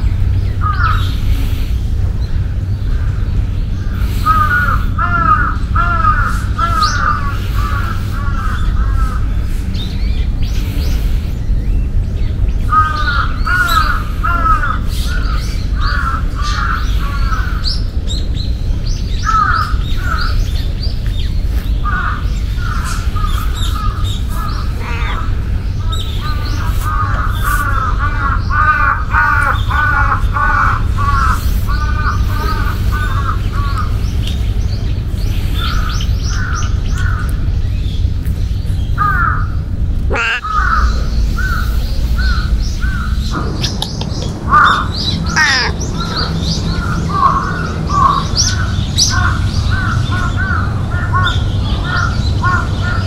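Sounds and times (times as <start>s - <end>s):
bird calls: 0.0s - 53.0s
low rumble: 0.0s - 53.0s.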